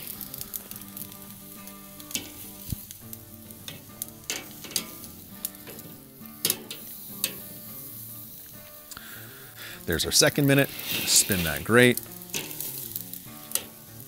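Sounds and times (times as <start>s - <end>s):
steaks sizzling on grill: 0.0s - 14.0s.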